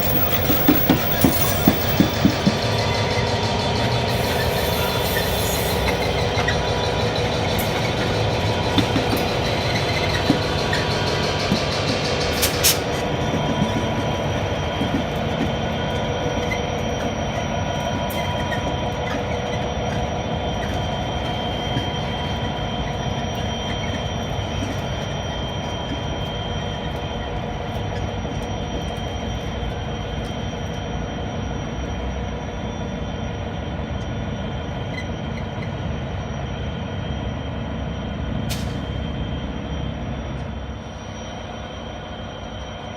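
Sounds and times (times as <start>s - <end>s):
train running: 0.0s - 42.9s.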